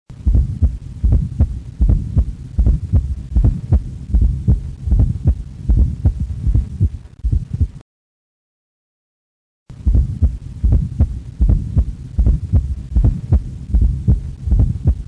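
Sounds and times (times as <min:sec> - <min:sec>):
galloping heartbeat thumps: 0:00.2 - 0:07.8, 0:09.8 - 0:15.0.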